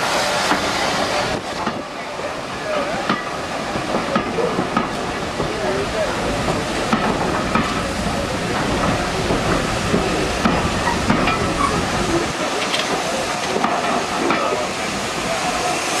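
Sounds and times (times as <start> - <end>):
steam hiss: 0.0 - 16.0
train coaches rumbling: 0.0 - 16.0
train clicks: 3.0 - 16.0.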